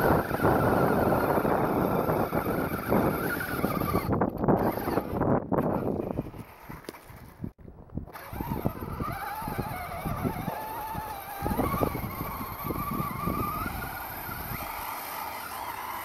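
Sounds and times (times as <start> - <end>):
electric motor whining: 0.0 - 6.4, 8.1 - 16.0
toy car bouncing over snow: 0.0 - 7.2, 8.1 - 16.0.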